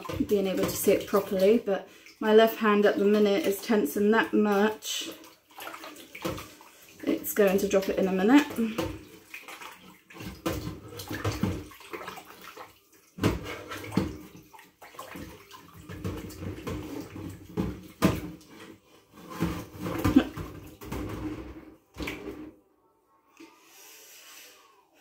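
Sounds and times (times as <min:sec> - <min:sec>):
water sloshing in a sink: 0:00.0 - 0:22.6.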